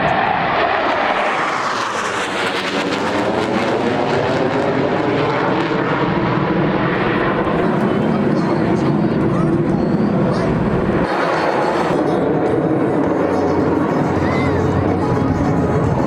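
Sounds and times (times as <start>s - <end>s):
aircraft engine roar flying past: 0.0s - 16.0s.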